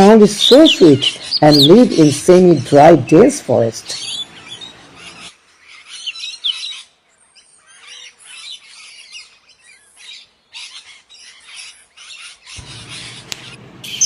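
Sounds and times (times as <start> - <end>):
bird calling harsh phrases: 0.0 - 14.0
low steady background noise: 0.0 - 14.0.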